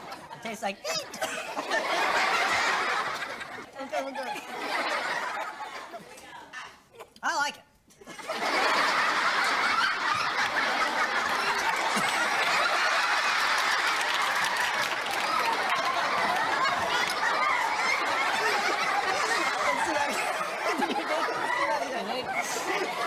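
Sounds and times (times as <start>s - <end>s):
studio audience laughing: 0.0s - 6.2s, 8.0s - 23.0s.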